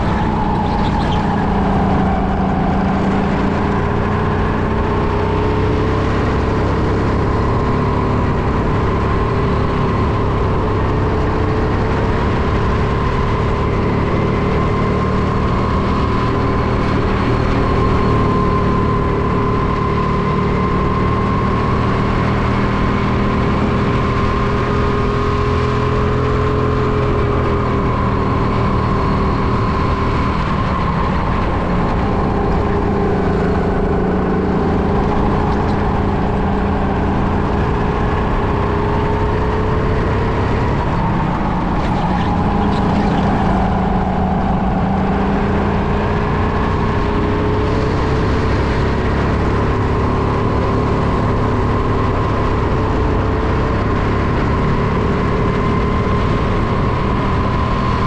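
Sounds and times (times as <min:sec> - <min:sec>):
go-kart engine revving: 0:00.0 - 0:58.0
road noise: 0:00.0 - 0:58.0.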